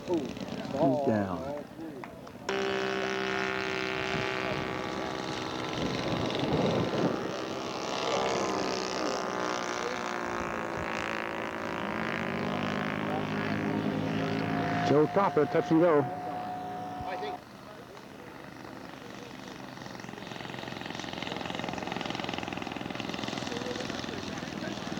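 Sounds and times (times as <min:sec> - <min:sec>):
model airplane engine running: 0:00.0 - 0:01.6, 0:02.5 - 0:24.9.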